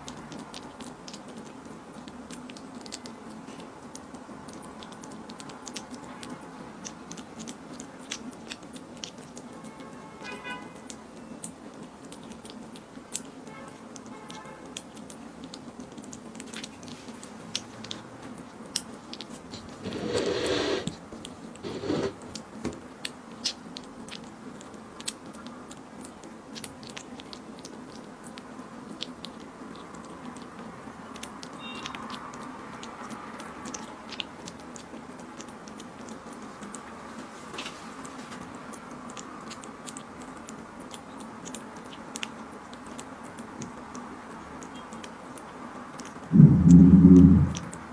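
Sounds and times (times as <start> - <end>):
kitten chewing and licking food: 0.0 - 47.9.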